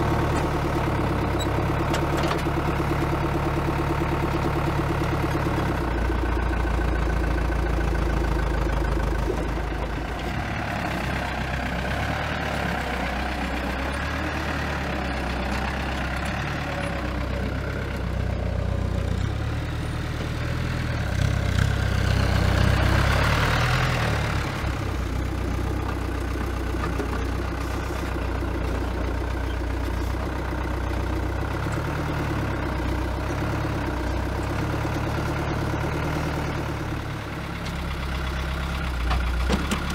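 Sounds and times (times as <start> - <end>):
forklift engine running: 0.0 - 39.9.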